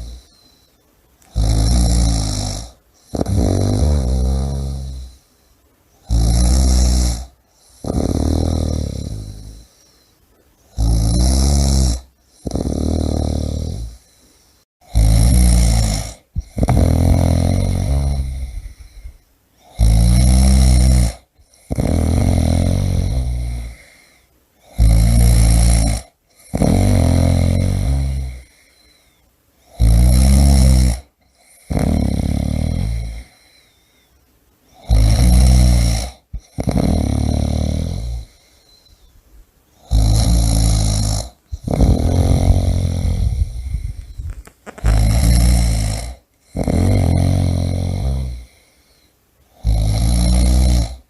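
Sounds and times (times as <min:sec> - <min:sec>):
person snoring: 0:00.0 - 0:05.3, 0:06.0 - 0:09.9, 0:10.7 - 0:34.0, 0:34.7 - 0:39.1, 0:39.8 - 0:51.0.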